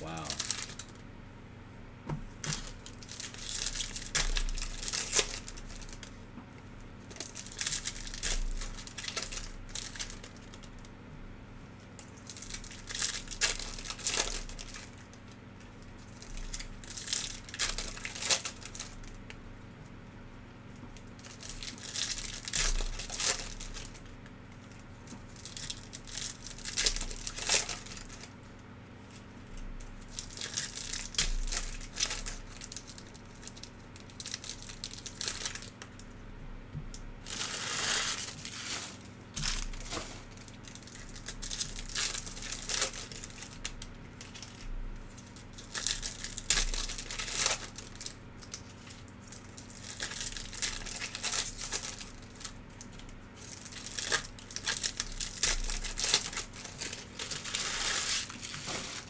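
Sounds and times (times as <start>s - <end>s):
foil wrappers crinkling and tearing: 0.0s - 1.0s, 2.4s - 6.2s, 7.0s - 10.9s, 11.8s - 19.4s, 20.7s - 36.2s, 37.2s - 59.0s.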